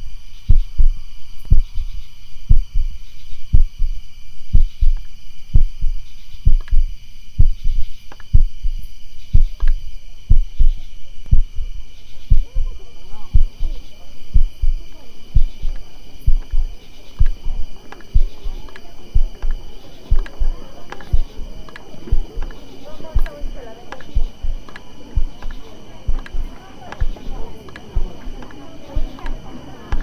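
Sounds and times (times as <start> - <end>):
faint wavering sounds: 0.0 - 30.0
heartbeat thumps: 0.0 - 30.0
steady high ringing tone: 0.0 - 30.0.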